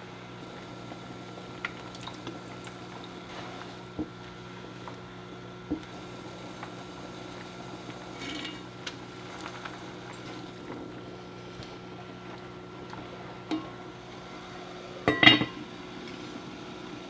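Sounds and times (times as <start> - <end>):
low steady hum: 0.0 - 16.4
food simmering in a pot: 0.3 - 17.0.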